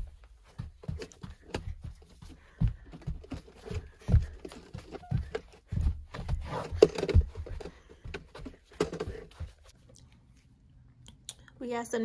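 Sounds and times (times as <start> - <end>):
child's feet stomping on floor: 0.0 - 9.6.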